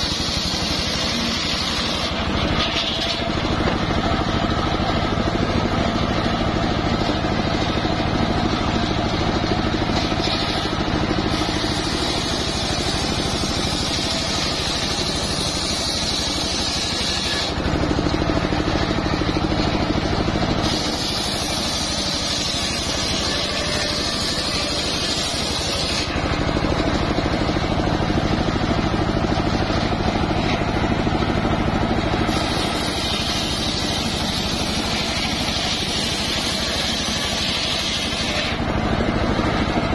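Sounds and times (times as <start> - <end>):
engine running: 0.0 - 39.9
saw blade cutting log: 0.0 - 39.9.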